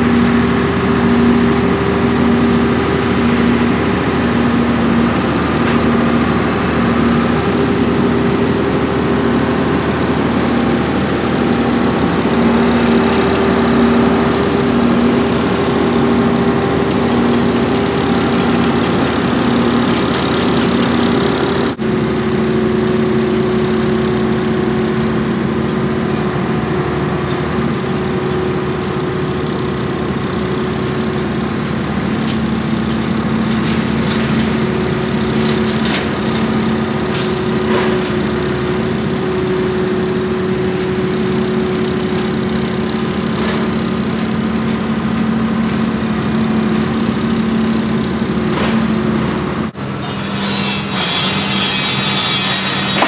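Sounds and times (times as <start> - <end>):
diesel power pack running: 0.0 - 53.0.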